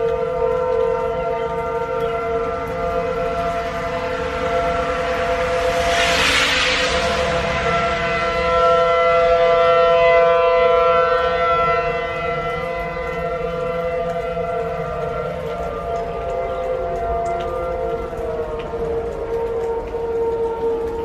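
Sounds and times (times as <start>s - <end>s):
warning siren steady chord: 0.0s - 21.0s.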